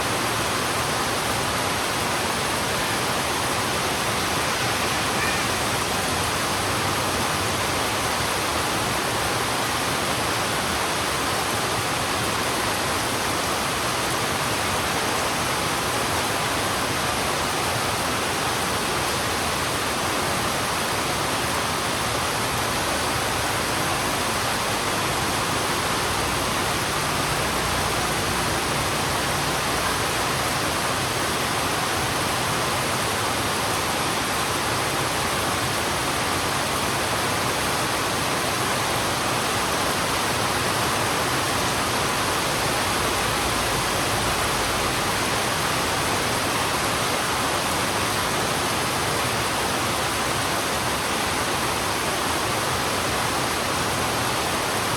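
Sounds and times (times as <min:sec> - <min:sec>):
heavy rain on road: 0:00.0 - 0:54.9.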